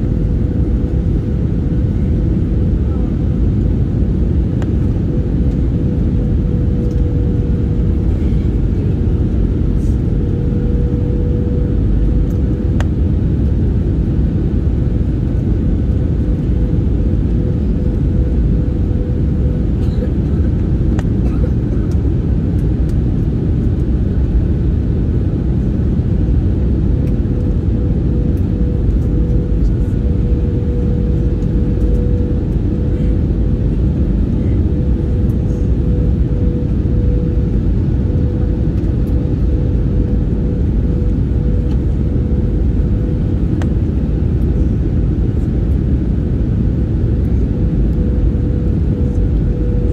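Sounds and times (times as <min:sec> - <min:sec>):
aircraft cabin drone: 0:00.0 - 0:49.9
mid-pitched hum: 0:00.0 - 0:49.9.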